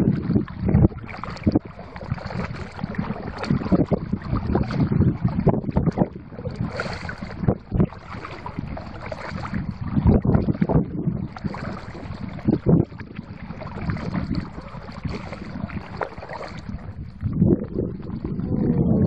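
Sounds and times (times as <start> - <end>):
water splashing and lapping: 0.0 - 19.0
wind on microphone: 0.0 - 19.0.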